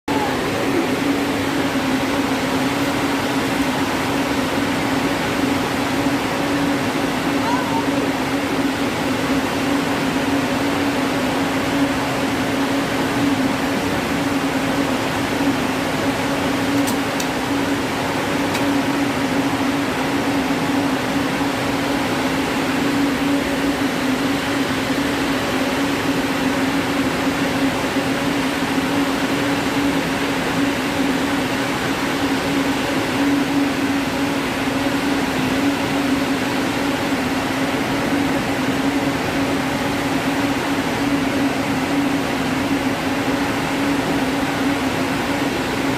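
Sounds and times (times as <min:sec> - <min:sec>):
spinning machinery running: 0:00.1 - 0:45.9.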